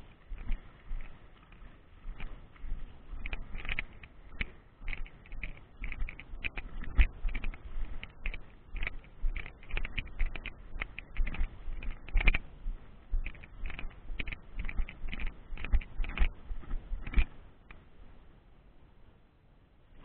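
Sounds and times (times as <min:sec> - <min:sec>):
footsteps on wet sand: 0:00.0 - 0:17.5
light clicks and rattles: 0:00.0 - 0:17.9.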